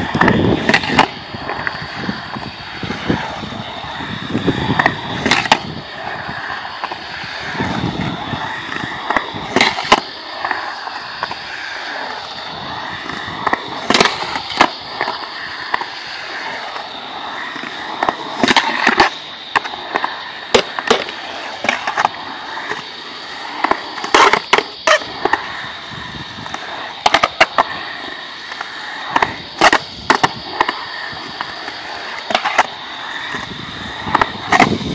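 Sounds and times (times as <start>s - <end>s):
skateboard clacking against concrete: 0.0s - 34.9s
skateboard wheels rolling on concrete: 0.0s - 34.9s.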